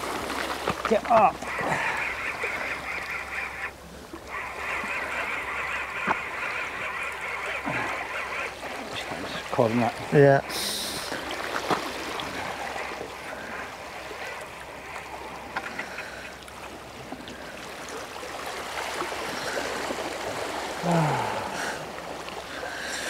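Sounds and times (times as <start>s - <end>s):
small waves lapping on rocks: 0.0s - 23.0s.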